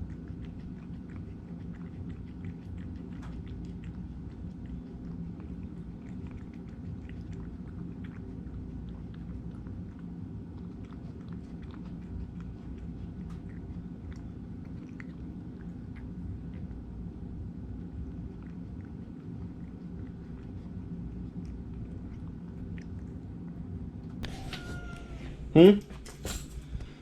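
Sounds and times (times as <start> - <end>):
cat chewing food: 0.0 - 27.0
steady low hum: 0.0 - 27.0.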